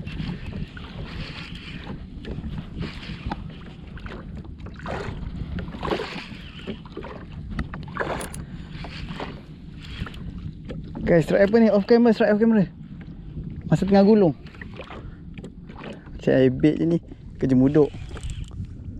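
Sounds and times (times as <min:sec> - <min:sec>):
water splashing against kayak hull: 0:00.0 - 0:18.8
wind rumble on microphone: 0:00.0 - 0:18.9.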